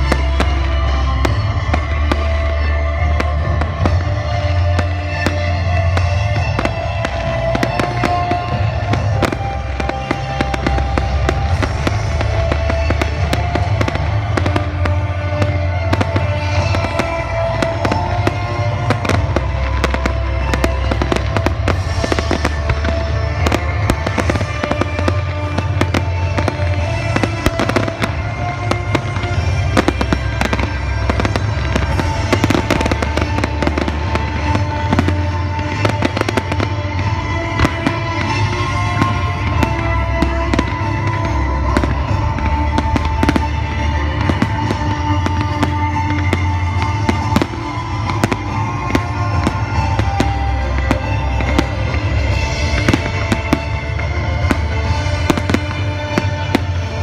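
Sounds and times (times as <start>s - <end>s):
fireworks bangs and crackles: 0.0s - 57.0s
loud music: 0.0s - 57.0s.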